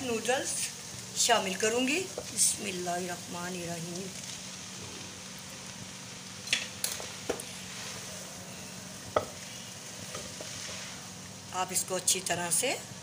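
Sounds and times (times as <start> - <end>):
vegetables sizzling in pan: 0.0 - 13.0.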